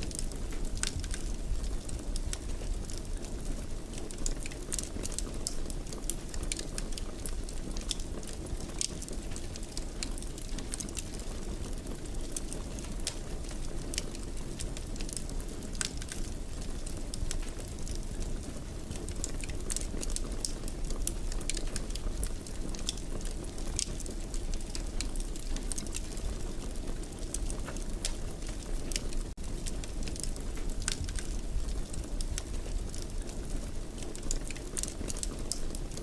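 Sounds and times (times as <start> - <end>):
fire crackling and popping: 0.0 - 36.0
wood fire rumbling and hissing: 0.0 - 36.0.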